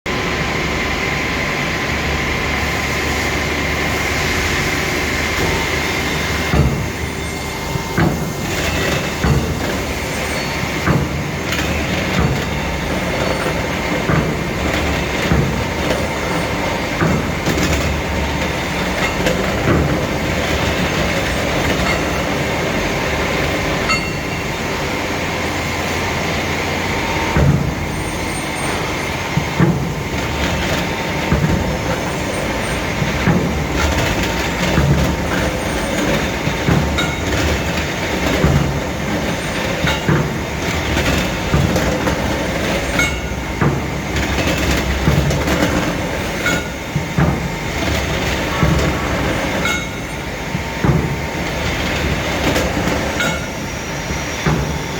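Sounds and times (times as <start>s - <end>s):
machinery rattling and clattering: 2.5s - 54.9s
machinery knocks: 6.3s - 7.2s, 7.8s - 24.8s, 25.7s - 53.7s.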